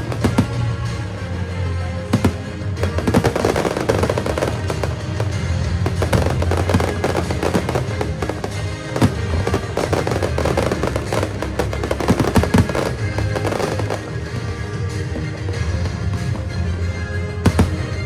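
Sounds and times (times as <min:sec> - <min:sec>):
fireworks bangs and crackles: 0:00.0 - 0:18.0
loud music with bass: 0:00.0 - 0:18.0.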